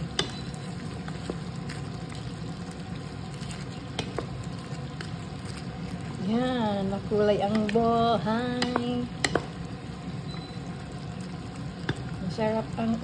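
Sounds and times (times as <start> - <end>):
food sizzling in a pan: 0.0 - 13.0
low steady hum: 0.0 - 13.0.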